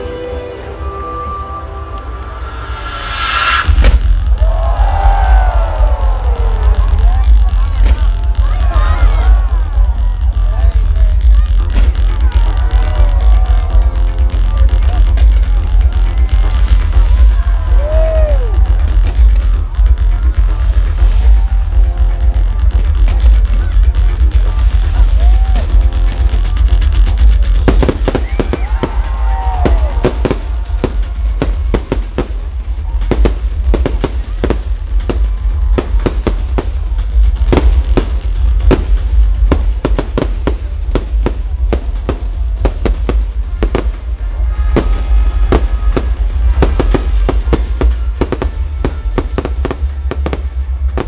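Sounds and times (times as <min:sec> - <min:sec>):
loud music: 0:00.0 - 0:51.0
fireworks bangs and crackles: 0:02.8 - 0:51.0.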